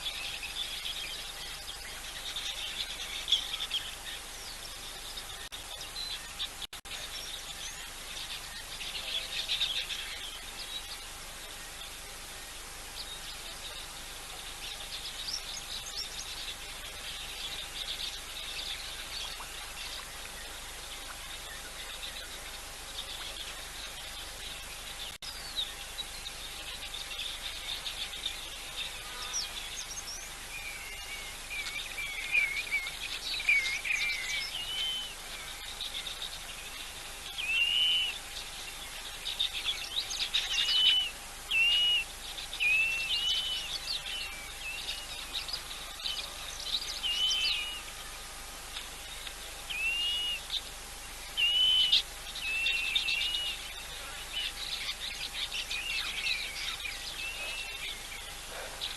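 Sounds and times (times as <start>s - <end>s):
faint constant hum: 0.0s - 58.9s
wild birds chirping: 0.0s - 58.9s.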